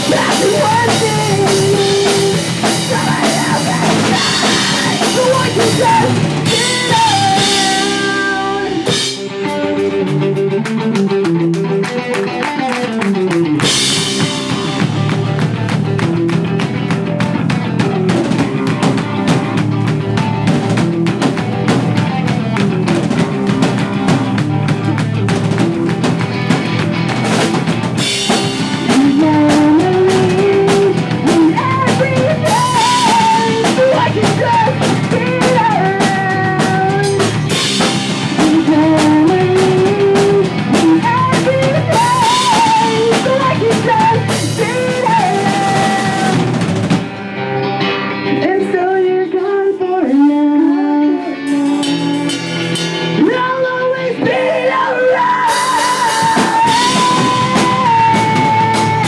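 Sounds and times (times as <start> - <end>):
drum kit: 0.0 - 47.7, 51.2 - 59.0
lead guitar melody: 0.0 - 49.3
bass guitar: 0.0 - 59.0
electric guitars: 0.0 - 59.0.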